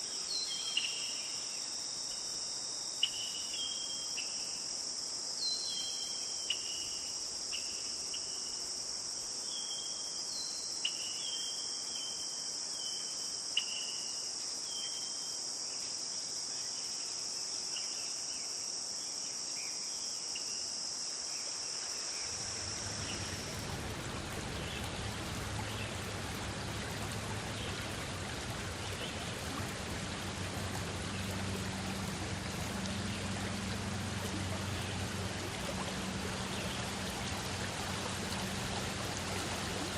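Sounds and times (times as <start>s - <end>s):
crickets trilling: 0.0s - 39.9s
running water of a stream: 0.0s - 39.9s.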